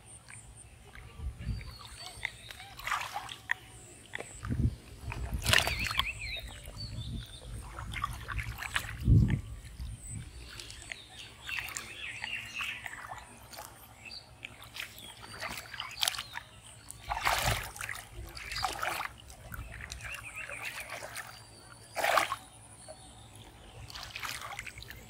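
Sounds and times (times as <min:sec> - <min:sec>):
birds calling: 0:00.0 - 0:25.0
muddy water splashing: 0:00.0 - 0:25.0.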